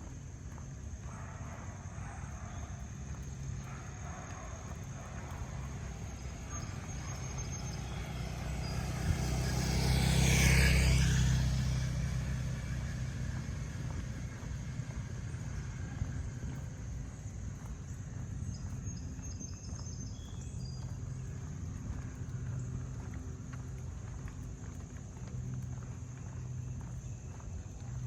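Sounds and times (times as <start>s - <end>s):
car driving past: 4.6s - 28.0s.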